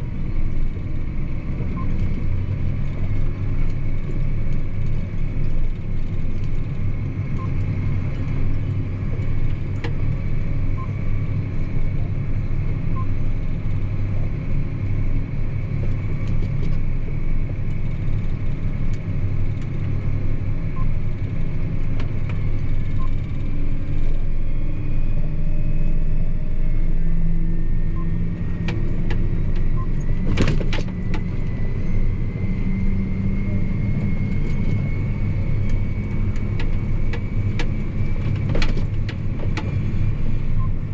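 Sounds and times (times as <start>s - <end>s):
tractor diesel engine drone: 0.0s - 40.9s
driveline whine: 0.3s - 40.9s.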